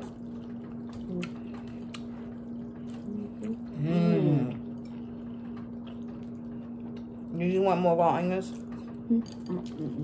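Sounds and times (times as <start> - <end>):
chewing sounds: 0.0 - 7.4, 8.4 - 10.0.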